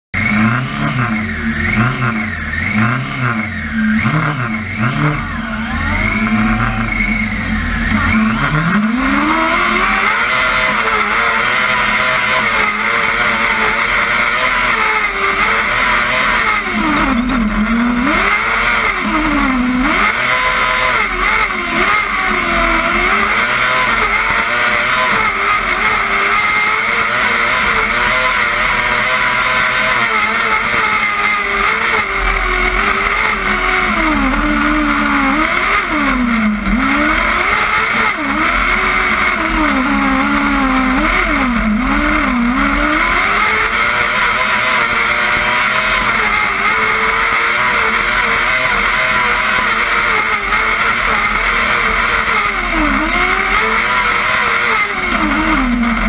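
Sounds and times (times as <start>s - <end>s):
racing car engine revving: 0.2s - 56.0s.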